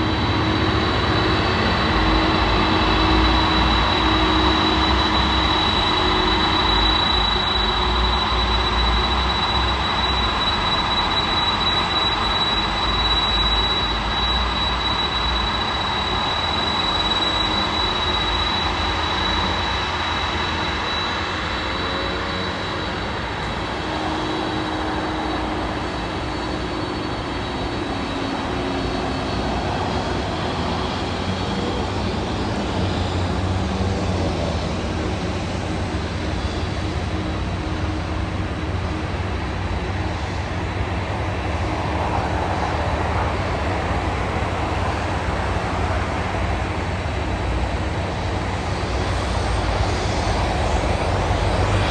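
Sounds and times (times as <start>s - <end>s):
high engine whine: 0.0s - 51.9s
jet engines: 0.0s - 51.9s.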